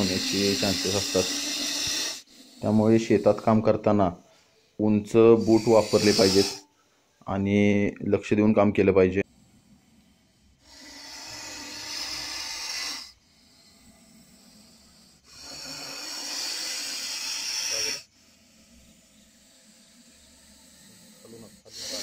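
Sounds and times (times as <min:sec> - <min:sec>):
snake hissing loudly: 0:00.0 - 0:03.9, 0:05.1 - 0:06.7, 0:09.2 - 0:22.0.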